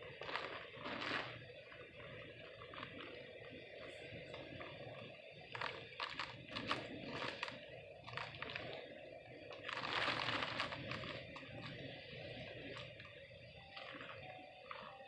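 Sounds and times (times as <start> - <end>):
sharp clicks and cracks: 0.0 - 15.0
storm wind rushing: 0.0 - 15.0.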